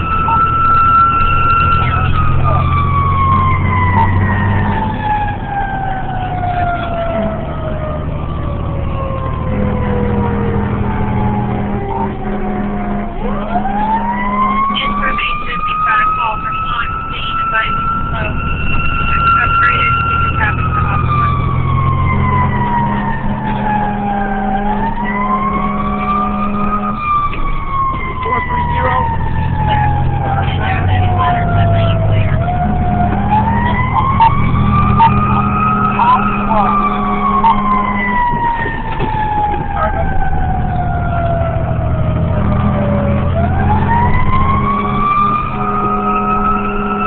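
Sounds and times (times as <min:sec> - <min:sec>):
fire engine idling: 0:00.0 - 0:47.0
fire engine siren winding down: 0:00.0 - 0:47.0.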